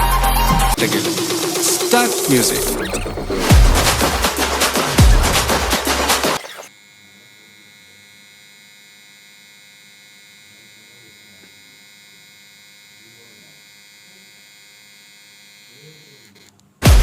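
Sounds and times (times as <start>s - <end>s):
hair trimmer buzzing: 0.8s - 16.6s.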